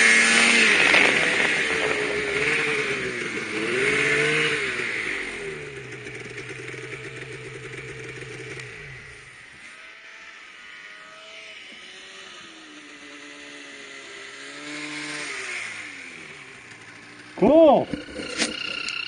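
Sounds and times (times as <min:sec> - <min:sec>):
snowmobile approaching: 0:00.0 - 0:19.0
snowmobile engine running: 0:00.0 - 0:19.0.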